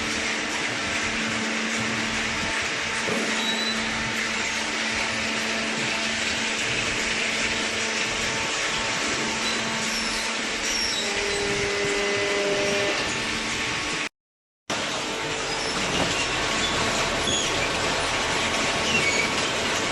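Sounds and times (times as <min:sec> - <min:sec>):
electric motor and hydraulic pump: 0:00.0 - 0:14.1, 0:14.7 - 0:19.9.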